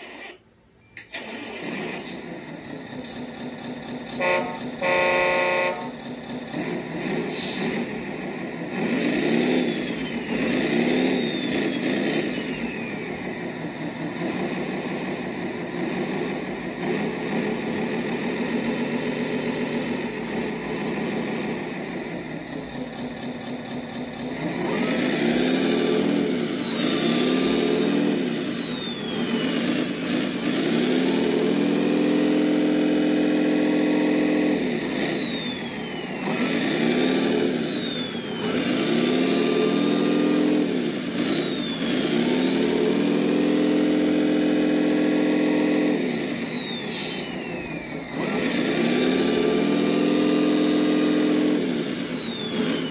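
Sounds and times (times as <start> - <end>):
simulated diesel engine revving: 1.0 - 52.9.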